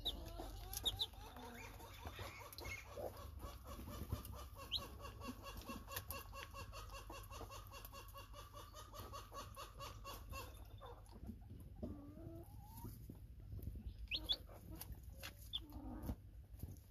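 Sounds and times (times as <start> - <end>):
chick peeps: 0.0 - 16.9
hen clucking softly: 0.0 - 16.9.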